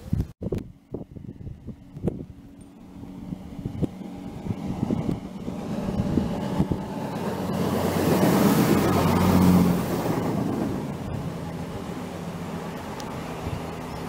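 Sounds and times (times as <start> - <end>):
passenger train rumble: 0.5 - 14.0.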